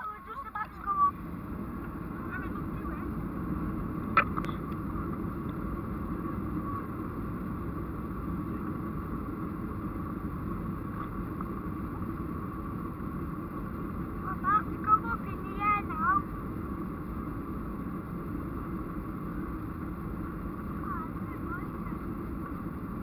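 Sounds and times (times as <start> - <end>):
faint high whine: 0.0 - 23.0
jet engine rumble in cabin: 0.0 - 23.0.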